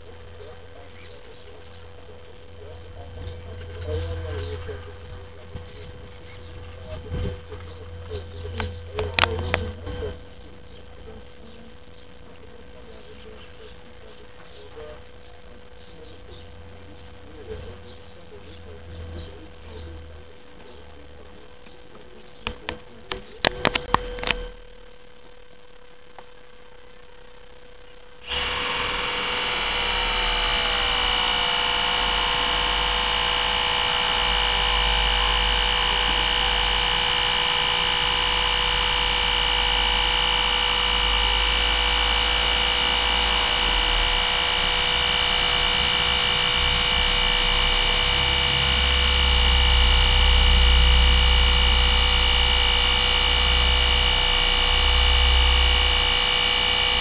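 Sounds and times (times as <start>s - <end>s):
electric motor whine: 0.0s - 25.1s, 27.4s - 57.0s
faint steady hum: 0.0s - 57.0s.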